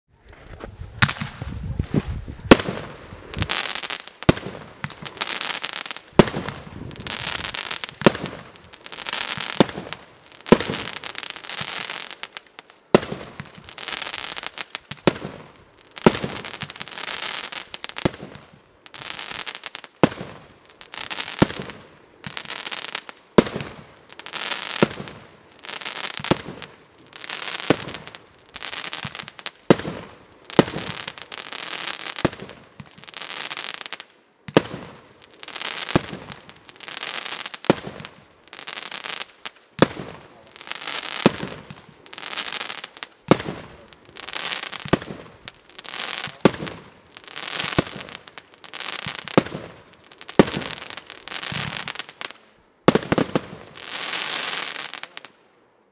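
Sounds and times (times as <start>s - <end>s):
firework shots banging and hissing: 0.2s - 55.3s.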